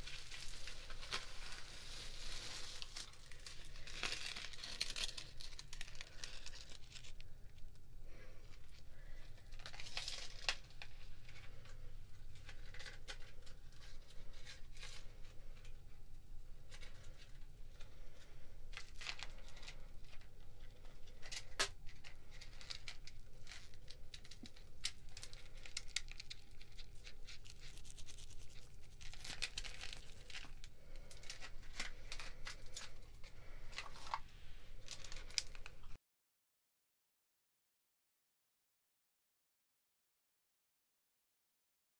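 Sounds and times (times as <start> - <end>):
packaging crinkling: 0.0 - 7.8, 8.5 - 15.8, 16.6 - 36.0.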